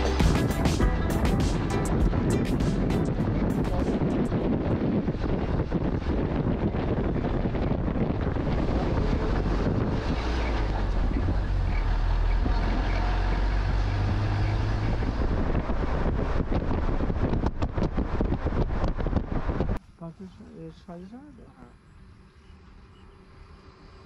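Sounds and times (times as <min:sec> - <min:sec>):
wind buffeting microphone: 0:00.0 - 0:19.8
vehicle engine and tyres rumbling: 0:00.0 - 0:24.0.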